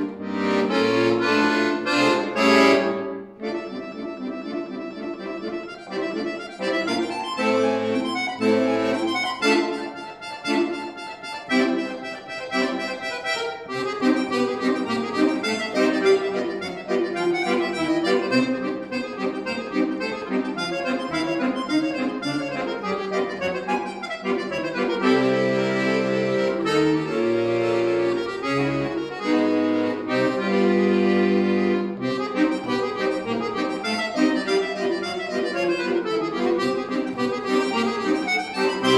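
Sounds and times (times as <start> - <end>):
accordion playing: 0.0 - 38.9.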